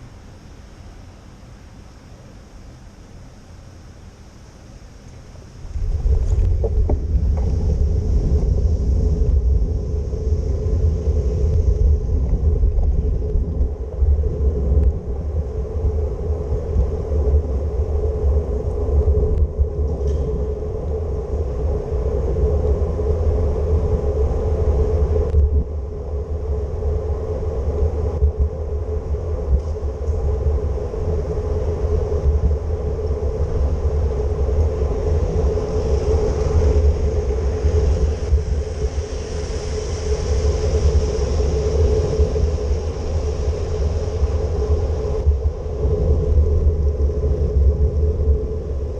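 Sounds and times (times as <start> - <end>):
mid-pitched hum: 0.0 - 48.9.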